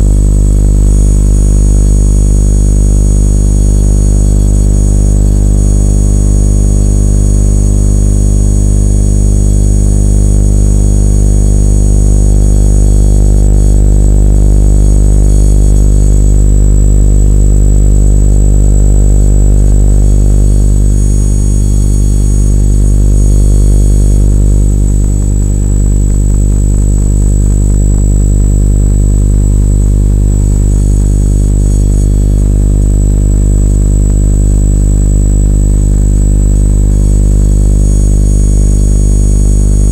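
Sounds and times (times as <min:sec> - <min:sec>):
deep hum: 0:00.0 - 0:34.2, 0:35.0 - 0:39.9
thin high whine: 0:00.0 - 0:34.2, 0:34.9 - 0:37.2, 0:37.8 - 0:39.9
loud electrical buzz: 0:00.0 - 0:39.9.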